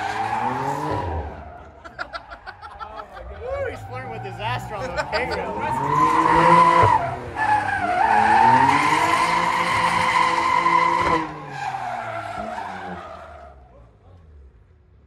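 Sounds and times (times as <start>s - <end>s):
car tyres squealing: 0.0s - 14.4s.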